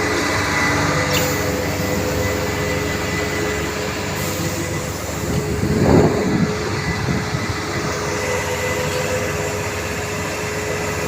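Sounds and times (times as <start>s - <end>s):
heavy machinery drone: 0.0s - 11.0s.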